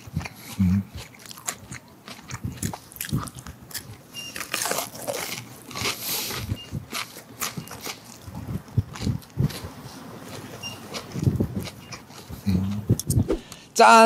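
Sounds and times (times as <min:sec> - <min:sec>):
crunchy chewing: 0:00.0 - 0:13.6.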